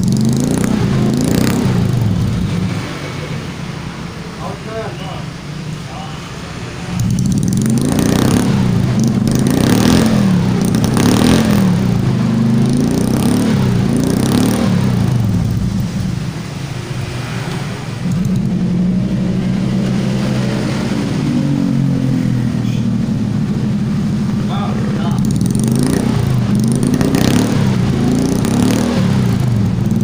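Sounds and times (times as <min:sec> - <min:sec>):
engine idling: 0:00.0 - 0:30.0
engine revving: 0:00.0 - 0:30.0.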